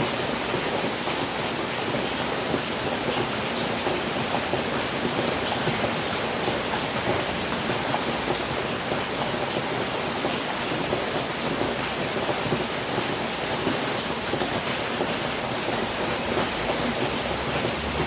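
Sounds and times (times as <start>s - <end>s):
rain on a roof: 0.0s - 18.0s.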